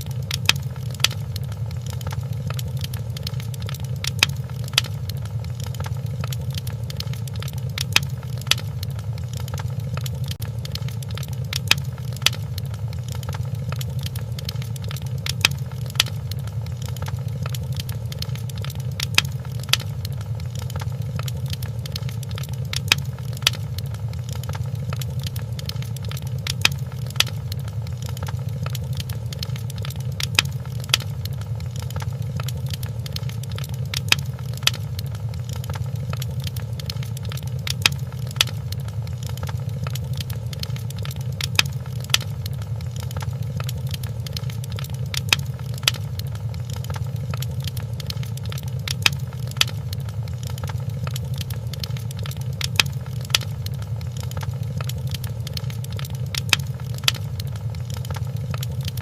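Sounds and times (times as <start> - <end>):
fire pops and snaps: 0.0 - 59.0
wood fire crackling: 0.0 - 59.0.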